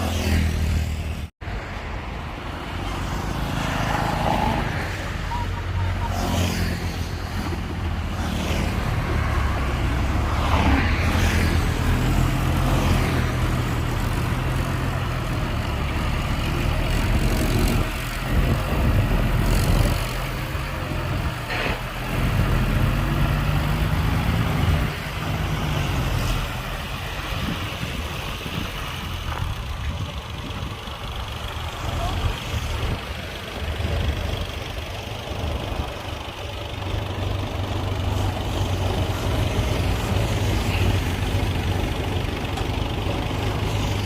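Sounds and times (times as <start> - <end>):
heavy diesel engines droning: 0.0 - 44.0.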